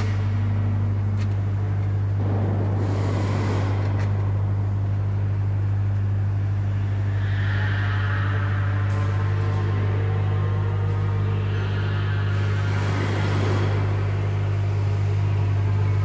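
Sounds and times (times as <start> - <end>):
factory machinery hum: 0.0 - 16.0.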